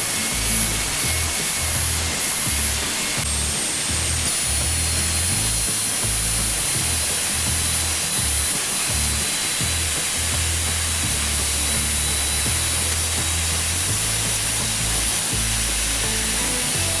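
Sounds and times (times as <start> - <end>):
background music with bass line: 0.0 - 17.0
router spindle whine: 0.0 - 17.0.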